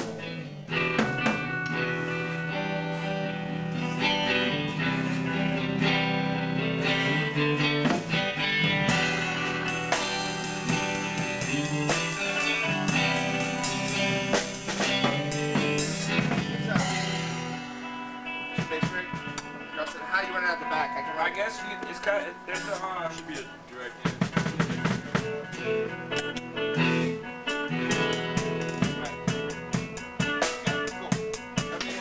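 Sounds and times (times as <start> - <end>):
drum kit: 0.0 - 32.0
electric guitar: 0.0 - 32.0.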